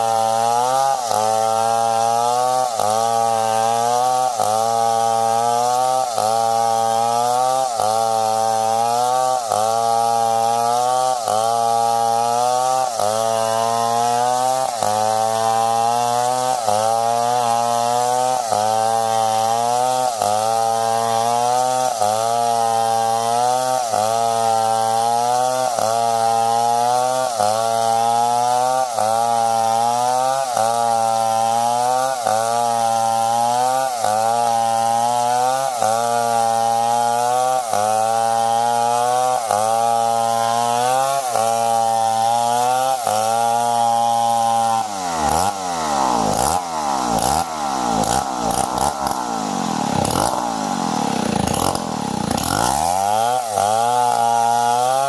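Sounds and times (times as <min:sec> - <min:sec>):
chainsaw cutting at high revs: 0:00.0 - 0:55.0.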